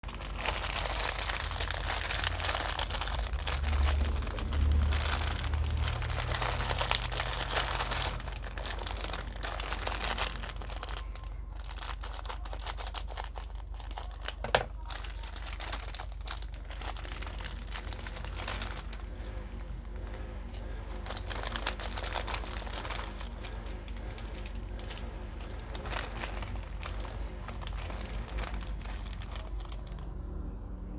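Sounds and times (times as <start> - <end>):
crinkling and crackling: 0.0 - 30.4.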